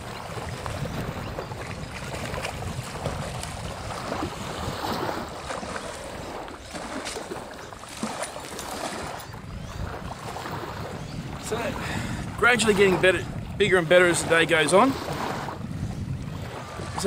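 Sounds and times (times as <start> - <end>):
small waves lapping: 0.0 - 17.0
wind buffeting microphone: 0.0 - 17.0.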